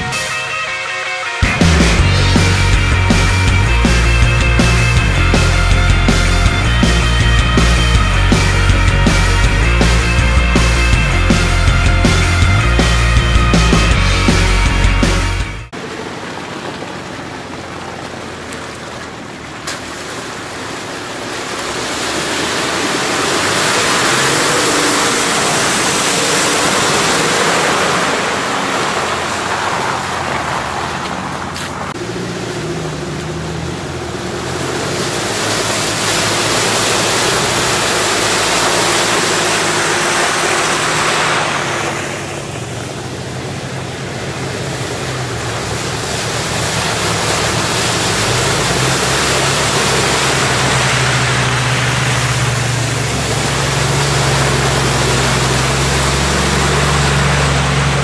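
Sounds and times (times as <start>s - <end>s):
tyres splashing through mud: 0.0s - 58.0s
engines pulling under load: 1.2s - 58.0s.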